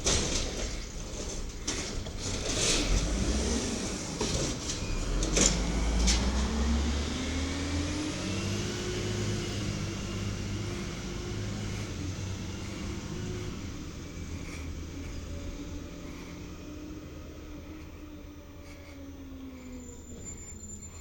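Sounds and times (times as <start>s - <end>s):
diesel garbage truck engine revving: 0.0s - 21.0s.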